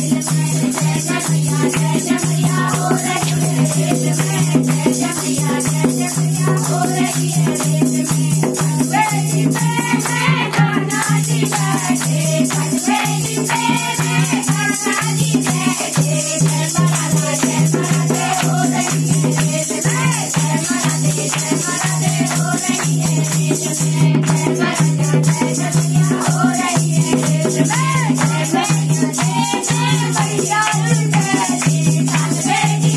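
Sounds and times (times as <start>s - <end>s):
hand drum: 0.0s - 32.9s
rhythmic hand-clapping: 0.0s - 32.9s
women singing in chorus: 0.0s - 32.9s.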